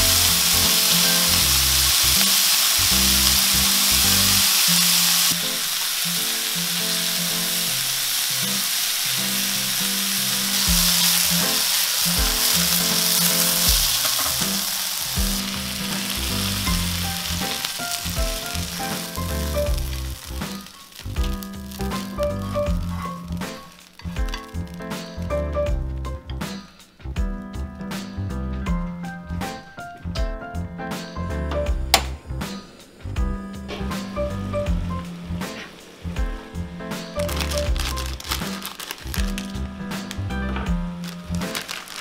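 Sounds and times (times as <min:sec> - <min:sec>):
meat and onion sizzling in a pan: 0:00.0 - 0:26.1, 0:31.8 - 0:42.0.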